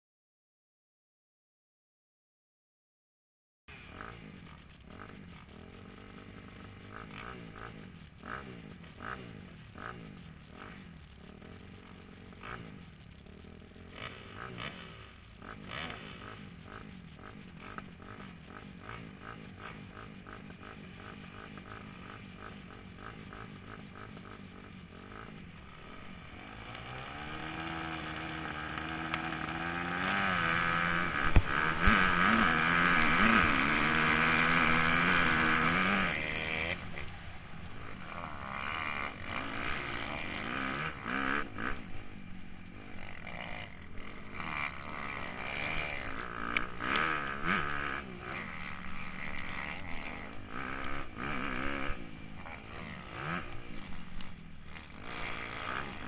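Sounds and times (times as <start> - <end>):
motocross bike engines revving: 3.7 - 56.0.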